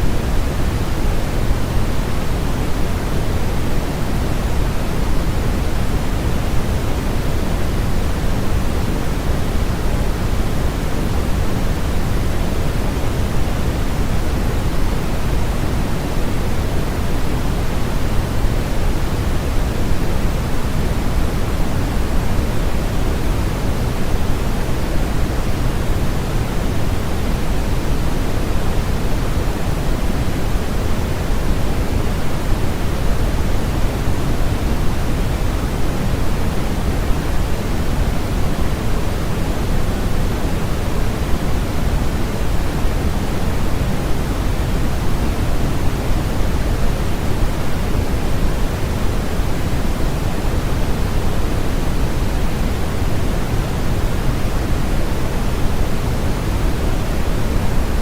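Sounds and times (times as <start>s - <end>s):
steady low hiss noise: 0.0s - 58.0s.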